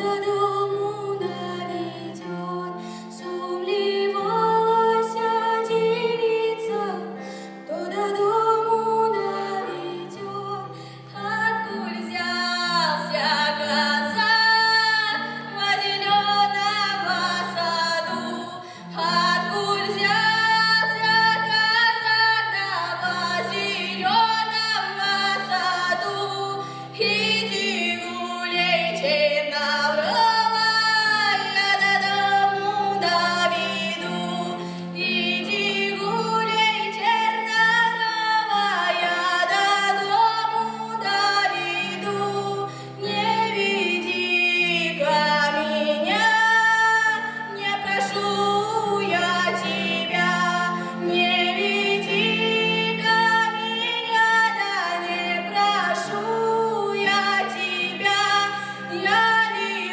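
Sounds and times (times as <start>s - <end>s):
woman singing with vibrato: 0.0s - 59.9s.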